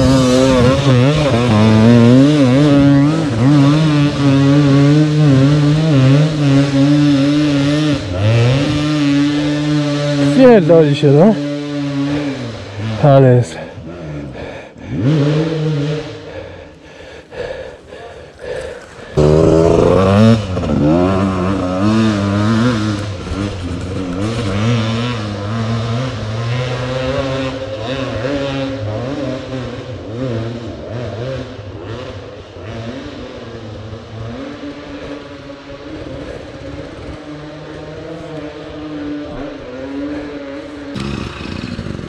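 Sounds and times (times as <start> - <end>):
dirt bike engine revving: 0.0 - 42.0
motorcycle engine running steadily: 0.0 - 42.0.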